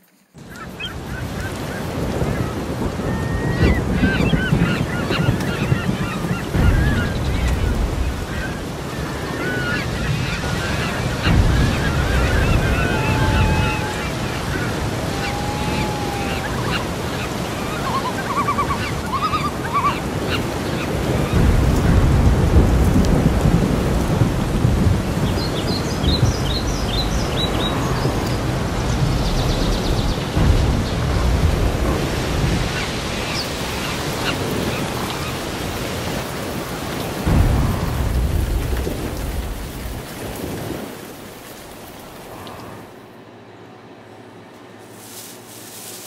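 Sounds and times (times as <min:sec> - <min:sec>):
wind rumble on microphone: 0:00.4 - 0:43.0
birds calling: 0:00.4 - 0:43.1.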